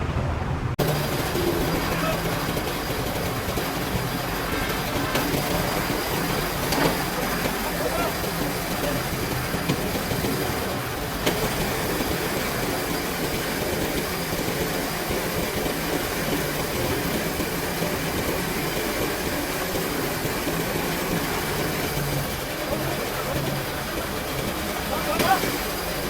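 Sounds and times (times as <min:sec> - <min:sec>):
heavy vehicle engine rumbling: 0:00.0 - 0:26.0.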